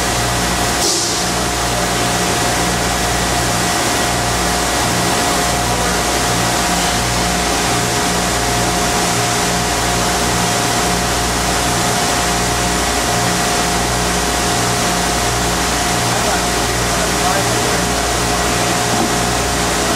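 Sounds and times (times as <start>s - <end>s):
industrial machinery hiss: 0.0s - 19.9s
machinery low hum: 0.0s - 19.9s
machinery whine: 0.0s - 19.9s.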